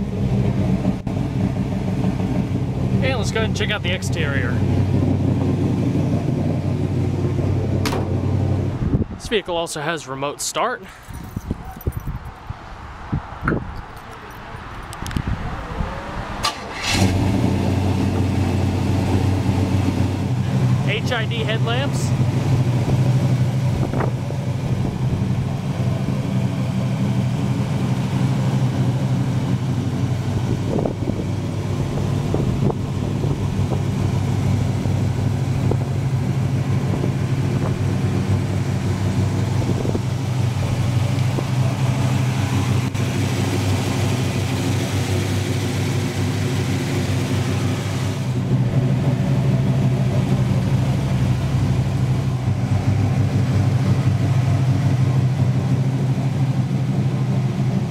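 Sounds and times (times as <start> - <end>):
truck engine idling: 0.0 - 11.5, 15.7 - 57.9.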